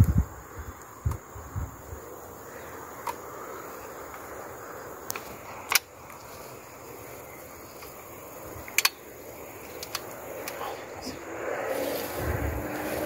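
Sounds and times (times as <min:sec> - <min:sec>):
grass rustling: 0:00.0 - 0:13.0
wind: 0:00.0 - 0:13.0.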